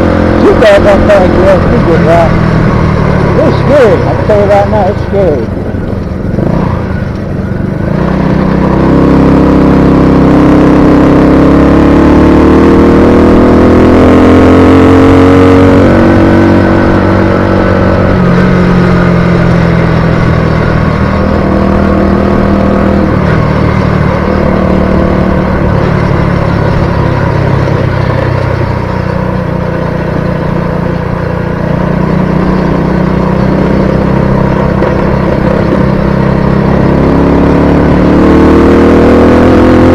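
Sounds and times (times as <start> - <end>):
small engine running hard: 0.0 - 39.9.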